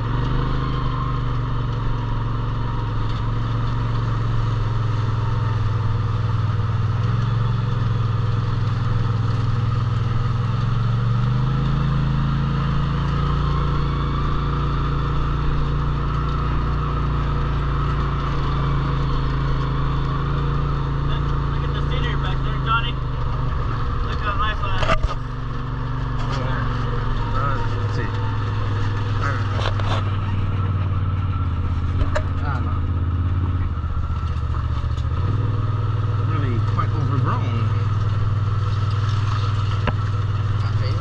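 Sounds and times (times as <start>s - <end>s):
road noise: 0.0s - 41.0s
vehicle engine humming: 0.0s - 41.0s.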